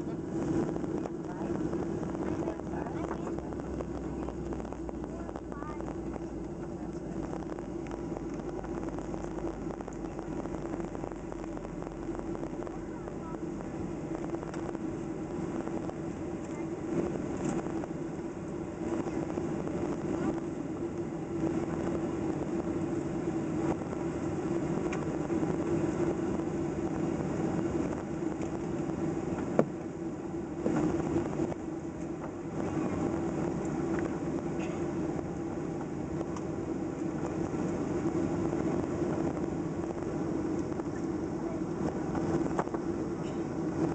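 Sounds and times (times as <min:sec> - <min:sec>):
jet engine drone in cabin: 0:00.0 - 0:43.9.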